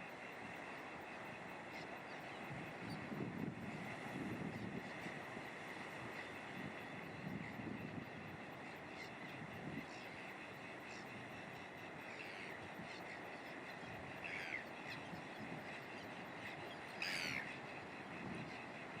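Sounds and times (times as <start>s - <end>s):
chatter of many birds: 0.0s - 19.0s
constant rushing noise: 0.0s - 19.0s.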